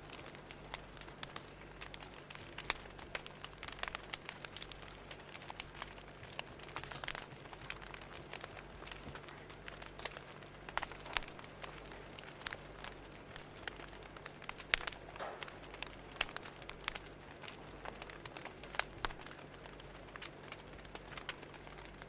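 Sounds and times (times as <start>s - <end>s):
faint steady hum: 0.0s - 22.0s
wood fire crackling: 0.0s - 22.0s.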